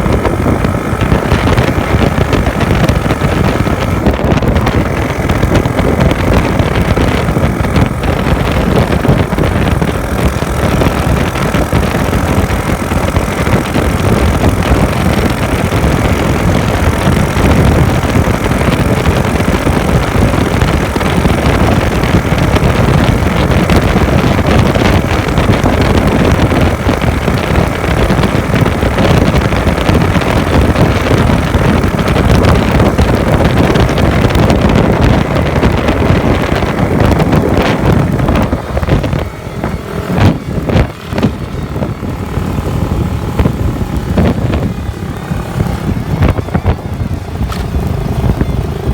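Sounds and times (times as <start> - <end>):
motorcycle engine running: 0.0 - 48.9
wind rumble on microphone: 0.0 - 48.9.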